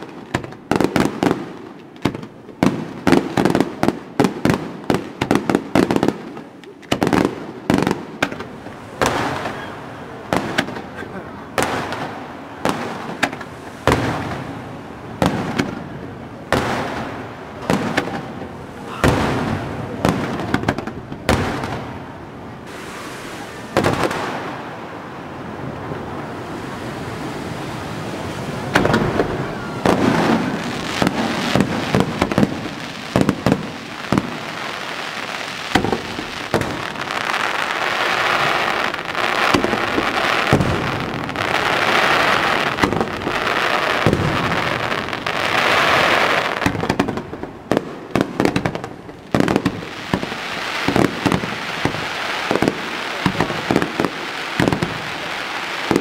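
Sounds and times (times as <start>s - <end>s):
firework bangs: 0.0s - 26.5s, 27.8s - 56.0s
firework crackling and hissing: 0.0s - 56.0s.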